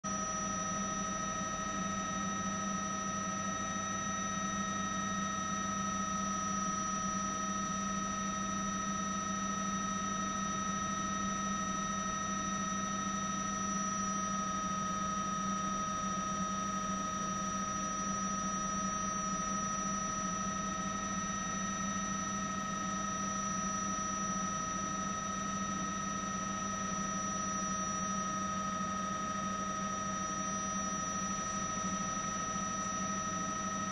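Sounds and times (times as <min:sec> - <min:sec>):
mechanical drone with whining tones: 0:00.1 - 0:33.9.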